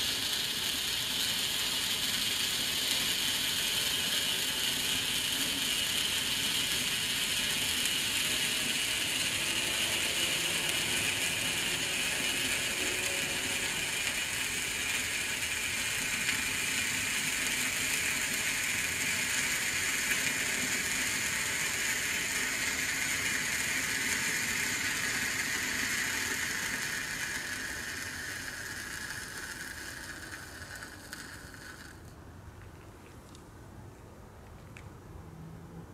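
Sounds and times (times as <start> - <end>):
flare torch hissing: 0.0 - 32.0.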